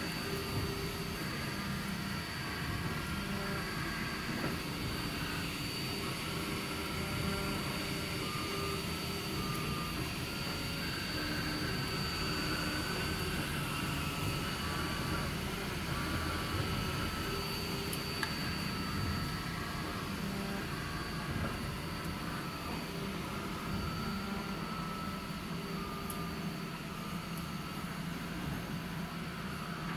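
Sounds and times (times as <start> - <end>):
cooling fans humming: 0.0 - 29.9
stepper motors whining: 0.0 - 29.9
thin high whine: 0.0 - 29.9.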